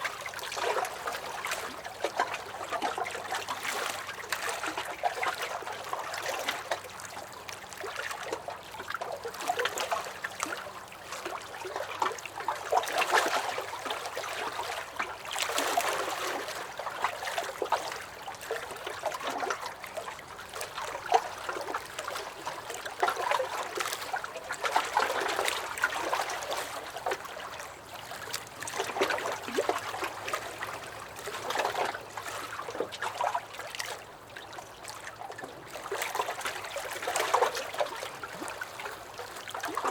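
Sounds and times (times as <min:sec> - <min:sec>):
lake waves lapping against a dock: 0:00.0 - 0:39.9.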